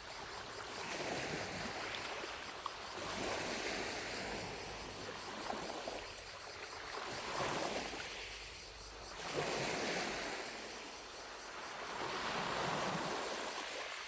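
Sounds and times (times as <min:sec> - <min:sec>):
distant cicadas buzzing: 0:00.0 - 0:14.0
waves lapping at shore: 0:00.0 - 0:14.0.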